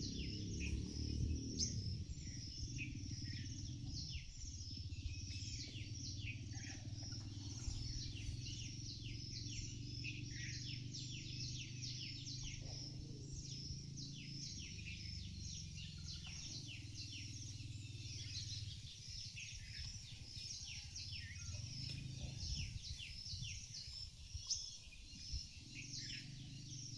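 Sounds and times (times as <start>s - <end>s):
steady low rumble: 0.0s - 26.8s
small birds chirping: 0.0s - 26.9s.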